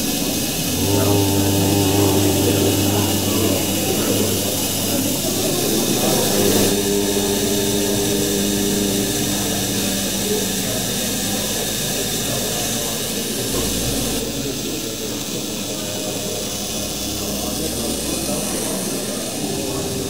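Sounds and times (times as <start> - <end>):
gas tube lights hissing: 0.0 - 20.0
man chanting om: 0.0 - 20.0.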